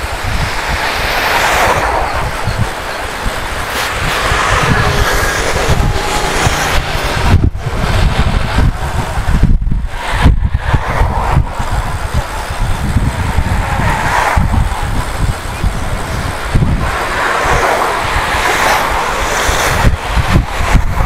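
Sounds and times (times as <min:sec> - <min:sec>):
road traffic: 0:00.0 - 0:21.0
wind buffeting microphone: 0:00.0 - 0:21.0.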